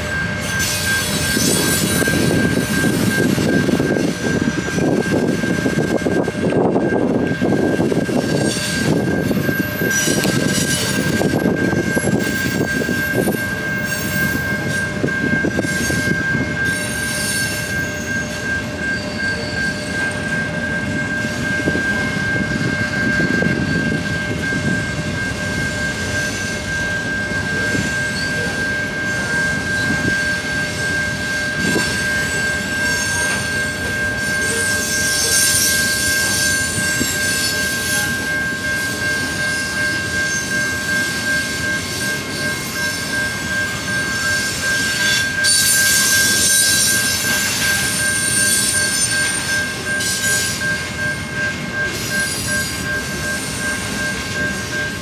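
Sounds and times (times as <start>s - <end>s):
high-pitched squeal: 0.0s - 55.0s
train wheels rumbling on rails: 0.0s - 55.0s.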